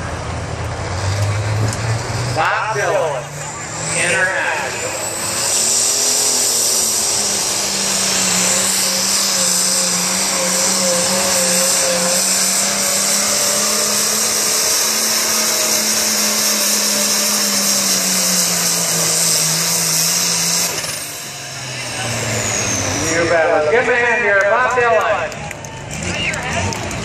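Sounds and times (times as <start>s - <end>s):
tractor diesel engine droning: 0.0s - 27.0s.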